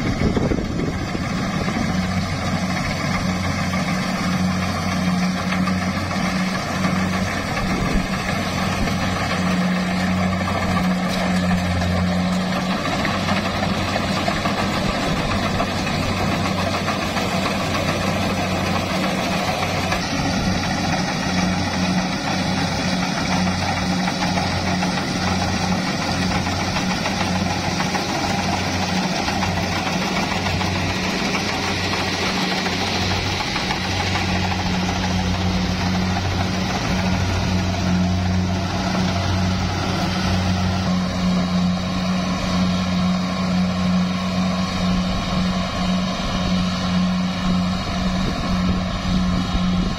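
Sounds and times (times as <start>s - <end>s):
diesel engine running under load: 0.0s - 49.9s
harvester threshing rattle: 0.0s - 49.9s.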